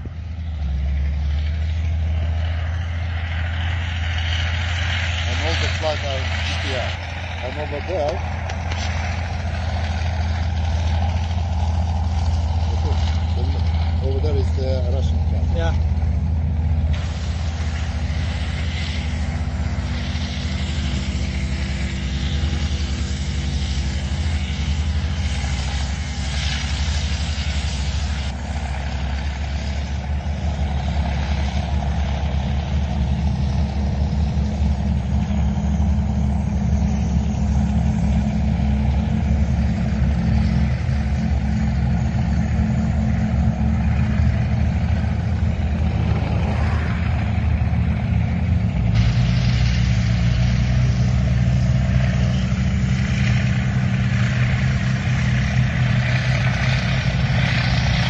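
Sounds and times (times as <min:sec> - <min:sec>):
heavy vehicle engine droning: 0:00.0 - 0:58.0.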